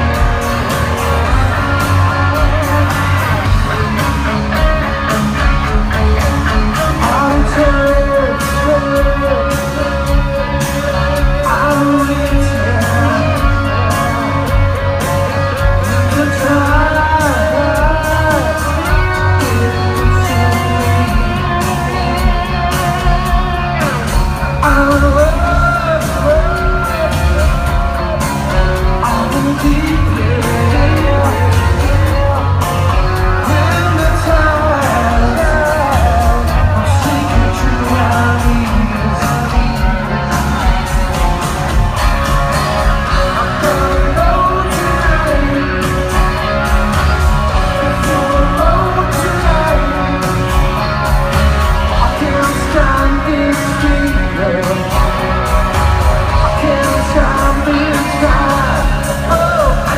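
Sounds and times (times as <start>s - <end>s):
person singing: 0.0s - 59.9s
rock band playing: 0.0s - 59.9s.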